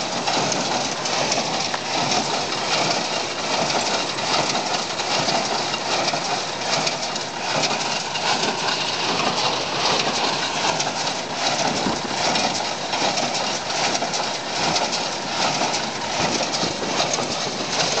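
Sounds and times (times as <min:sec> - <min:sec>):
tractor and baler clattering: 0:00.0 - 0:18.0.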